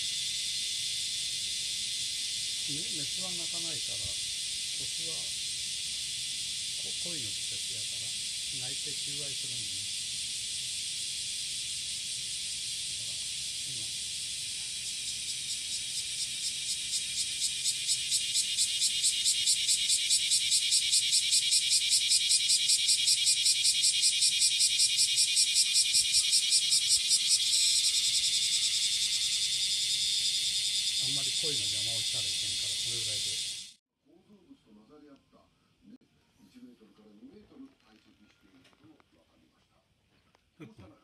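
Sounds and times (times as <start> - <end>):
cicadas buzzing: 0.0 - 33.8
pulsed cicada song: 0.0 - 33.8.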